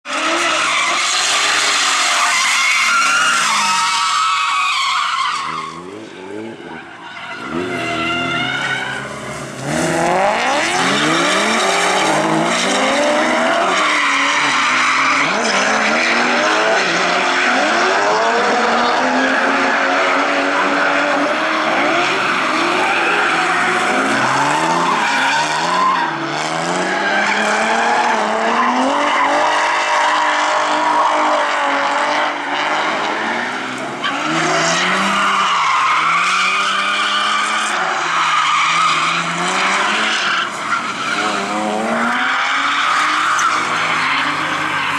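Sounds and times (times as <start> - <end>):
drift car engines revving: 0.0 - 44.9
tyre squeal: 0.1 - 31.4, 32.3 - 44.9.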